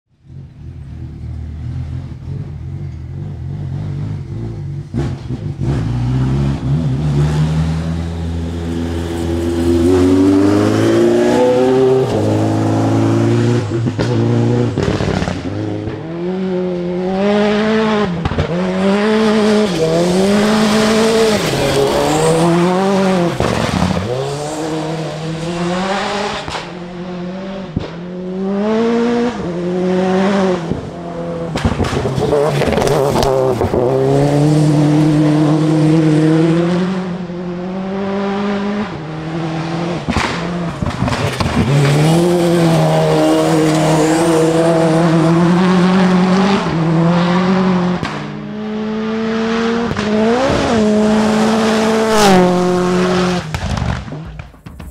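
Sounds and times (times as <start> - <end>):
turbocharged rally car engine revving: 0.1 - 54.9.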